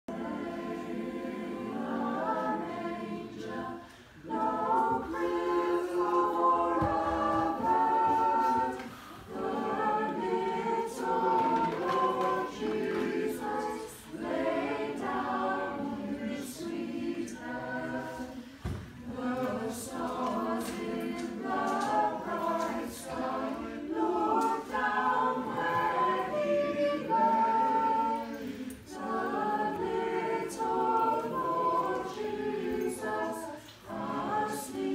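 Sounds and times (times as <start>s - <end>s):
mixed choir singing a cappella: 0.0s - 34.9s.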